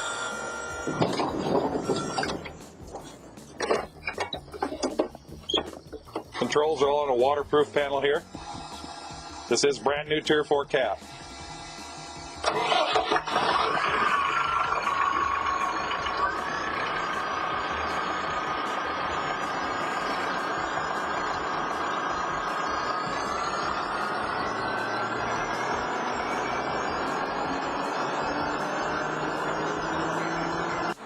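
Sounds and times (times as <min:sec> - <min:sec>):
grain vacuum machine whining: 0:00.0 - 0:02.8, 0:05.5 - 0:31.0.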